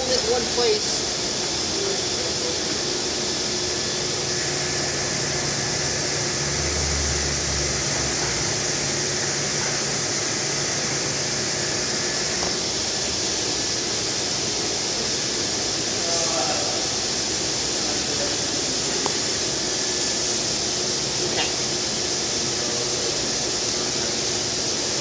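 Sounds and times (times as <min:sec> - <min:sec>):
machine hissing: 0:00.0 - 0:25.0.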